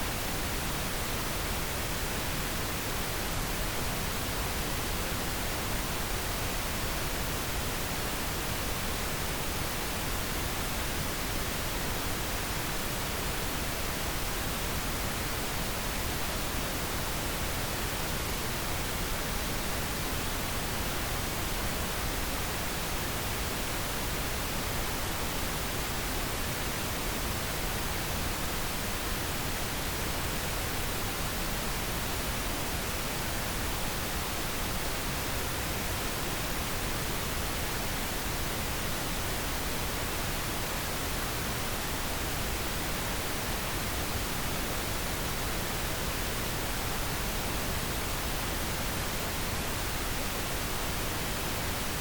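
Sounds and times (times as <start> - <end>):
pink noise hiss: 0.0 - 52.0.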